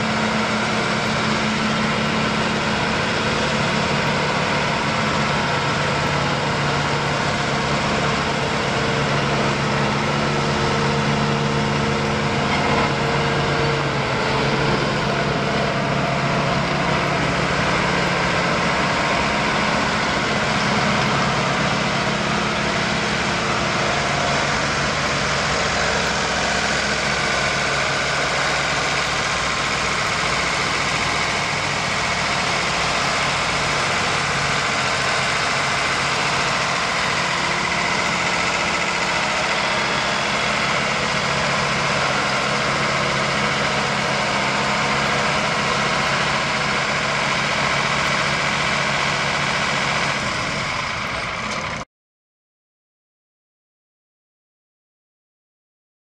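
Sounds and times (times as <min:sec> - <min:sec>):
tractor diesel engine running: 0:00.0 - 0:51.8.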